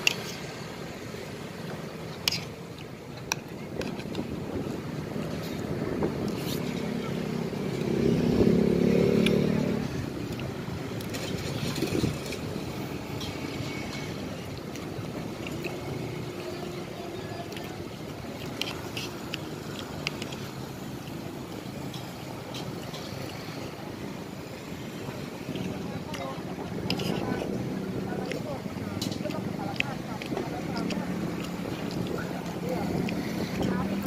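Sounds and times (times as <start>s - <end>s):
street background noise: 0.0s - 34.0s
motor vehicle passing: 3.9s - 34.0s.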